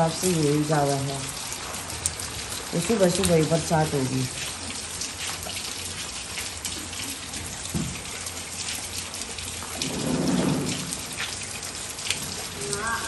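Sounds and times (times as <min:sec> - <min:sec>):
light rain on concrete: 0:00.0 - 0:13.0.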